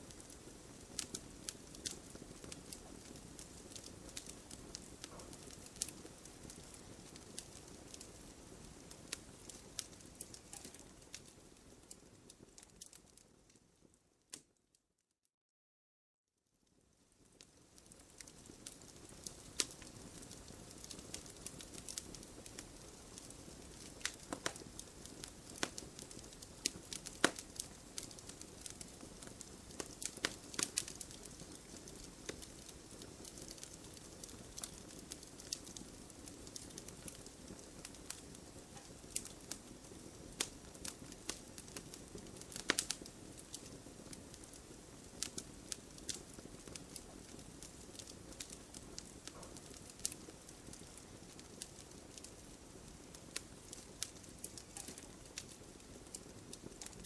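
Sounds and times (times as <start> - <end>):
wood fire crackling: 0.0 - 14.6, 16.7 - 57.0.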